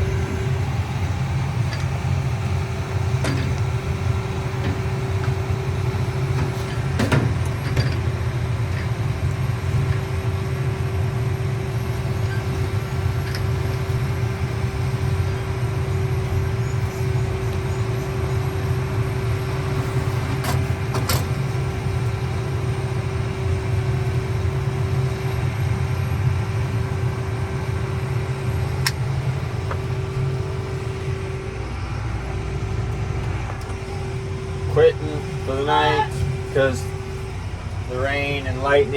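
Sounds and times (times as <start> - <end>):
heavy machinery engine rumbling: 0.0 - 38.9.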